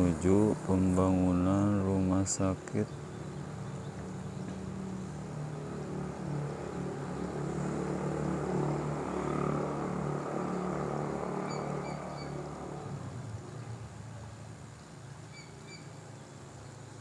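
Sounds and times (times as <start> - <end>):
drone propellers humming: 0.0 - 16.6.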